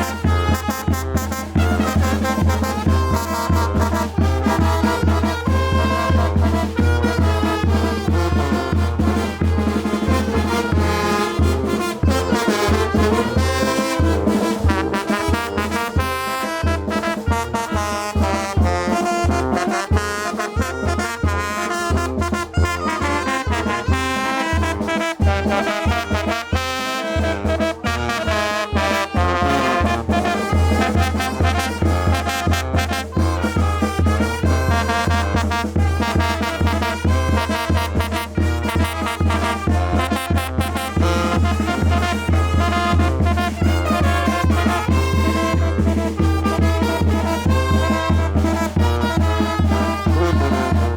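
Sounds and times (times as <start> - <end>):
trumpets and trombones playing: 0.0 - 50.9.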